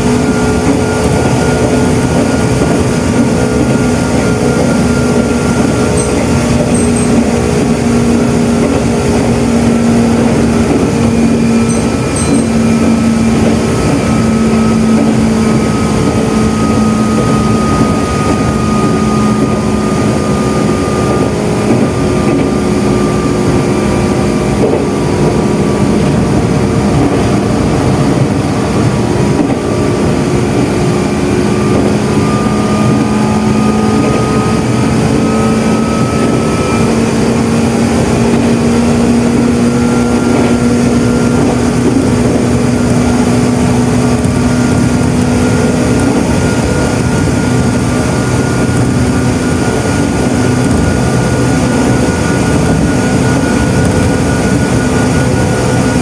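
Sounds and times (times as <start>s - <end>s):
traction motor whine: 0.0s - 56.0s
train wheels on rail: 0.0s - 56.0s.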